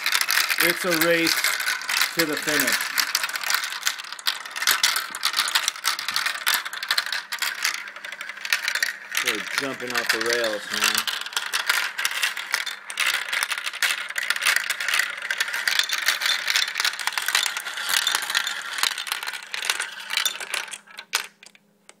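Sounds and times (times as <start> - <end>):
marbles rolling and clattering: 0.0 - 21.6.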